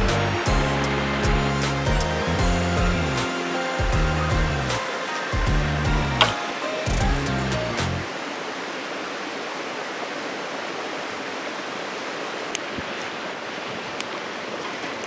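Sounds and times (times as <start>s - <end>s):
steady rushing outdoor noise: 2.4s - 15.0s.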